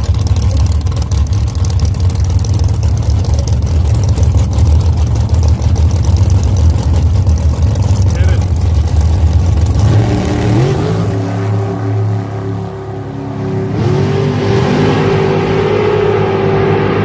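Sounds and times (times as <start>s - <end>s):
dragster engine accelerating: 0.0s - 17.0s.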